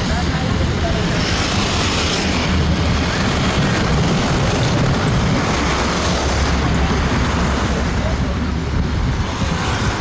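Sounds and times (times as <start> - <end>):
traffic engine rumble: 0.0 - 10.0
tyre and road noise: 0.0 - 10.0.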